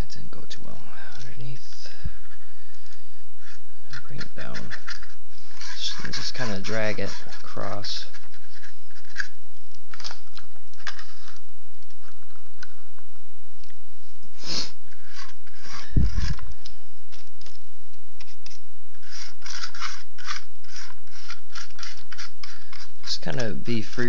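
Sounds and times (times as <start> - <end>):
paintbrush scratching on plastic: 0.9 - 12.4, 14.4 - 17.6, 18.2 - 24.0.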